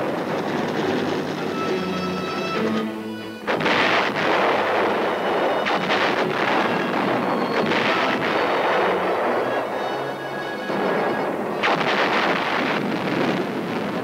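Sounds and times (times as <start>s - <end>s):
artillery gun firing: 0.0s - 2.8s, 3.4s - 14.0s
rolling echoing noise: 0.0s - 14.0s.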